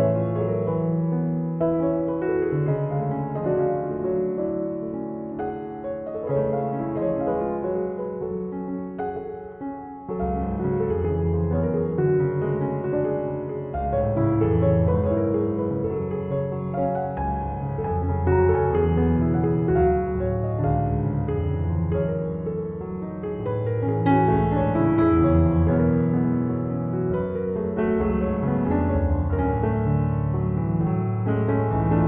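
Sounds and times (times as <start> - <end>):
gentle slow piano music: 0.0 - 32.0.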